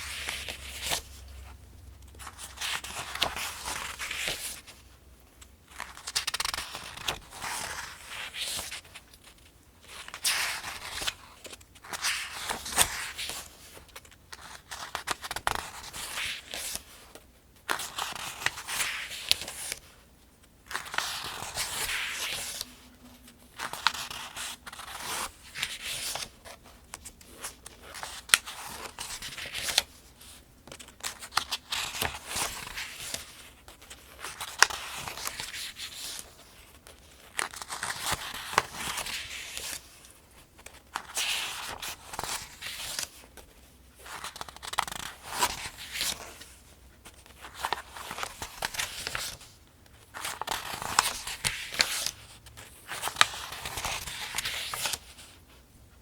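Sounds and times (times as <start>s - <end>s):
paper pages being turned: 0.0s - 20.0s, 20.6s - 55.6s.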